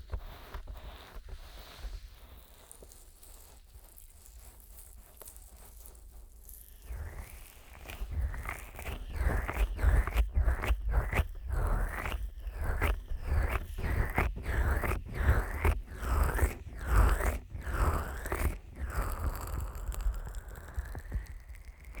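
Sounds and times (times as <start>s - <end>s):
fingers rubbing microphone: 0.0s - 22.0s.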